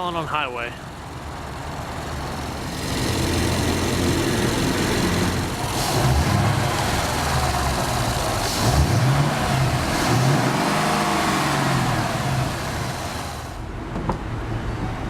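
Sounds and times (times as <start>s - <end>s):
car engine revving: 1.1s - 13.7s.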